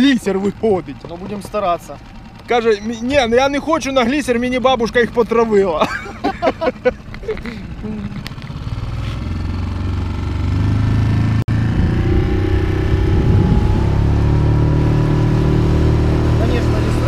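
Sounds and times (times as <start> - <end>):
outboard motor at full throttle: 0.0 - 17.0.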